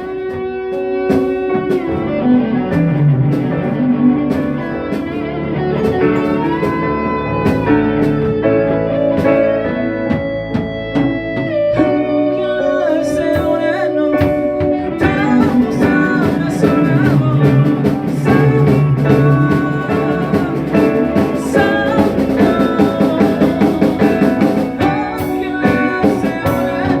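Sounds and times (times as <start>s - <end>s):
guitar lead with drums: 0.0s - 27.0s.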